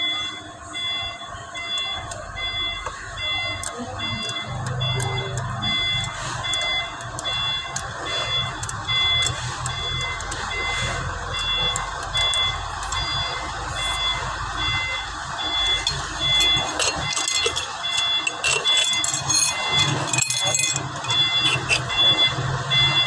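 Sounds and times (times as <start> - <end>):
vehicle backup alarm beeping: 0.0 - 23.0
sharp metallic clicks: 1.6 - 14.2, 15.4 - 22.4.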